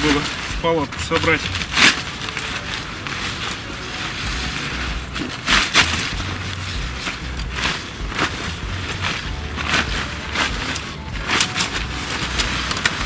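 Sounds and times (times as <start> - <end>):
steady low rumble: 0.0 - 13.0
tent fabric rustling: 0.0 - 13.0.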